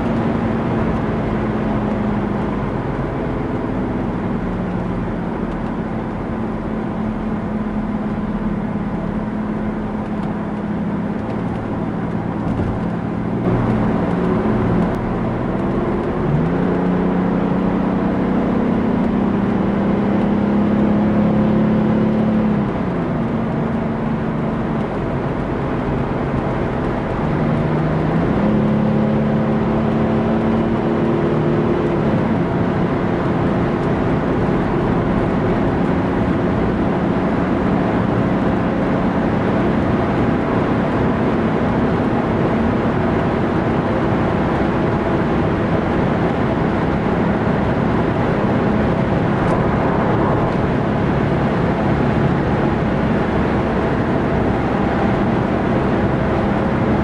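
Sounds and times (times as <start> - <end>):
diesel engine pulling: 0.0 - 18.6, 21.4 - 57.0
road noise: 0.0 - 57.0.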